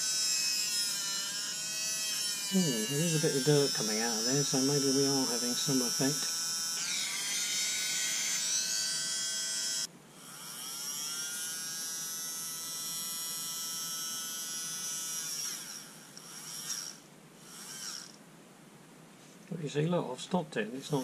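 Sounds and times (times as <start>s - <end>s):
small motor whining: 0.0s - 18.2s.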